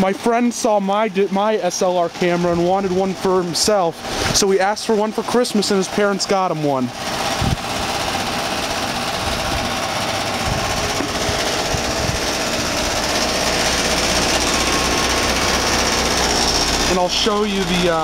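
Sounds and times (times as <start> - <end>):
heat pump unit running: 0.0 - 18.0
rattling on heat pump: 0.0 - 18.0.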